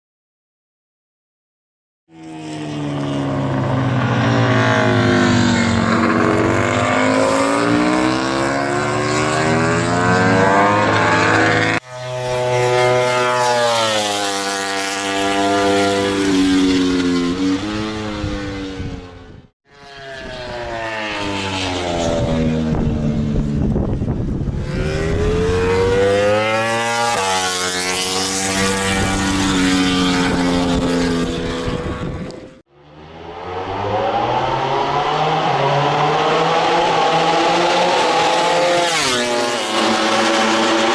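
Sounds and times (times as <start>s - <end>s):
motorcycle engine revving: 2.1s - 40.9s.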